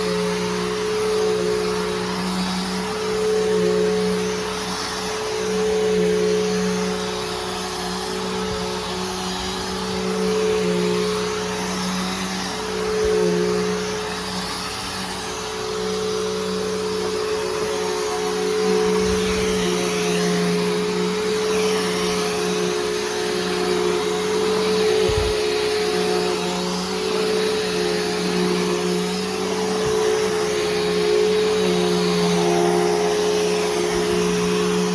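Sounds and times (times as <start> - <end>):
upright vacuum running: 0.0 - 34.9.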